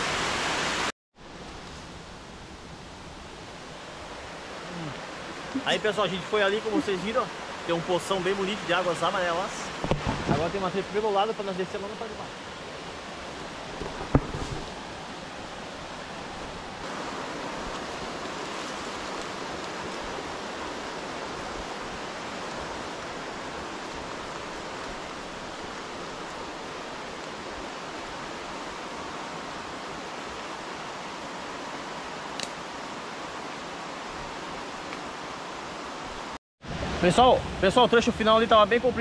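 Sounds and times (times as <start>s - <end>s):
waterfall rushing: 0.0s - 0.9s, 2.8s - 39.0s.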